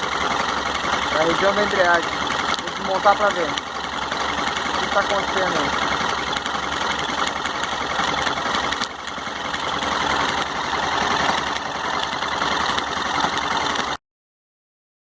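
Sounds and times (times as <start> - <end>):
mechanical noise from engine: 0.0 - 14.0
motorcycle engine idling: 0.0 - 14.0.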